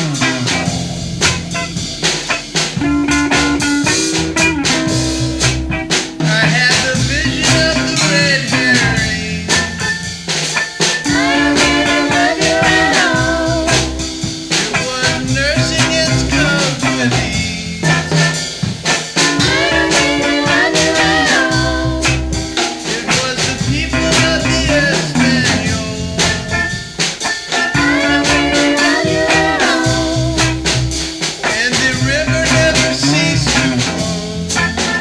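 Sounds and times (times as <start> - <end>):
bluesy rock band: 0.0 - 35.0.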